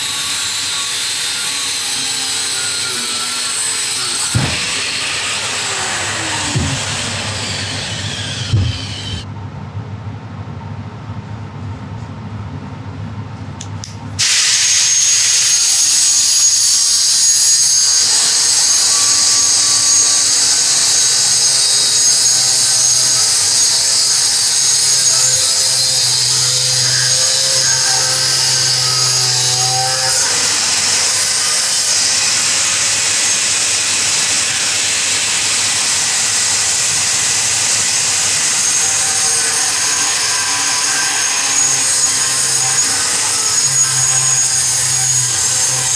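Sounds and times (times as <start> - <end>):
angle grinder grinding steel: 0.0 - 9.2, 14.2 - 45.9.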